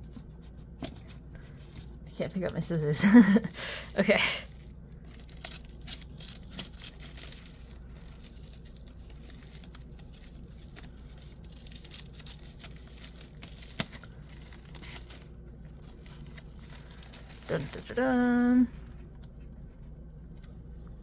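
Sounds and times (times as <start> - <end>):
packaging bag crinkling: 3.0 - 21.0.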